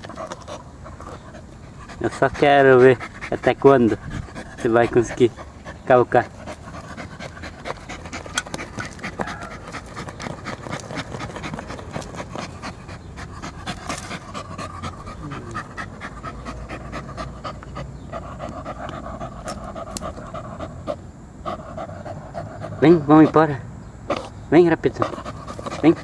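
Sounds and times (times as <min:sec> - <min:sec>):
dog claws scratching dirt: 0:00.0 - 0:20.7, 0:24.1 - 0:26.0
dog panting: 0:00.0 - 0:26.0.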